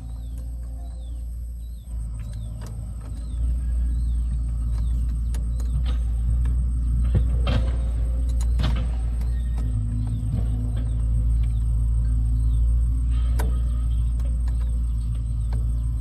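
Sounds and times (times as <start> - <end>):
knocks and sharp clatter: 0.0 - 16.0
low mechanical rumble: 0.0 - 16.0.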